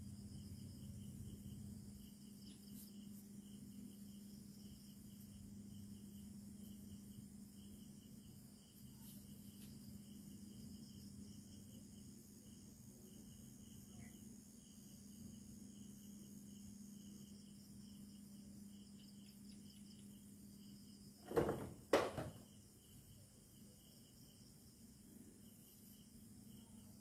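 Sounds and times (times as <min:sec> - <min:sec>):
constant low hum: 0:00.0 - 0:27.0
crickets chirping: 0:00.0 - 0:27.0.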